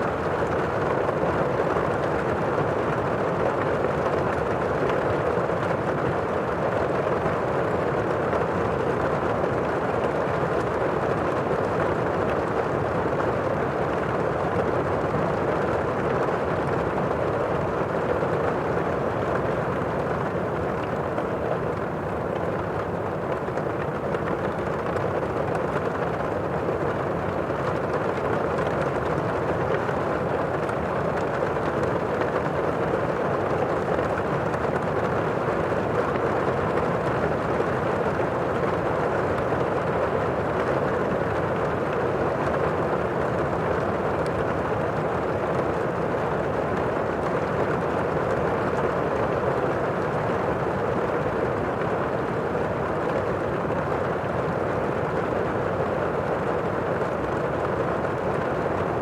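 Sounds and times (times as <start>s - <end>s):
muffled heavy rain: 0.0s - 59.0s.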